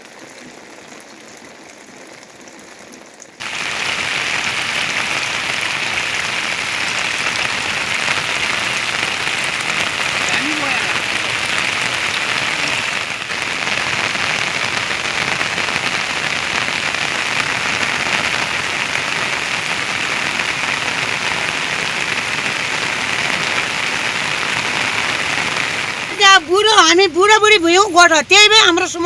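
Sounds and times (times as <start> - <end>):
heavy rain falling: 3.4 - 29.0.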